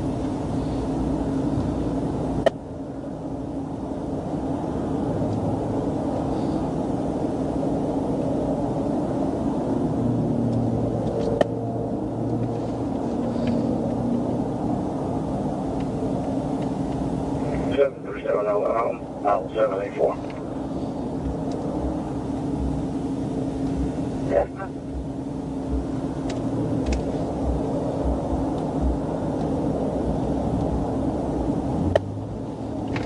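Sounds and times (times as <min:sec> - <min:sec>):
faint hum: 0:00.0 - 0:33.0
traffic rumble: 0:00.0 - 0:33.0.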